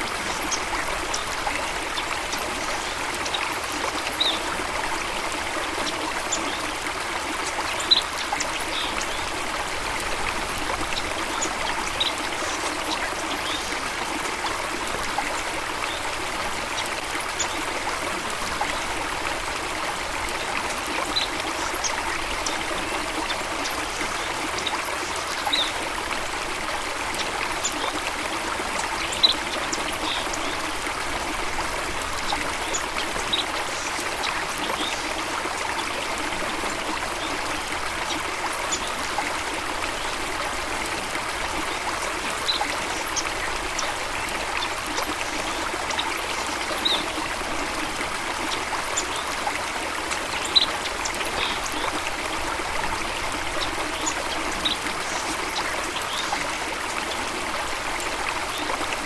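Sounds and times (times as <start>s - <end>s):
water rushing and trickling: 0.0s - 59.0s.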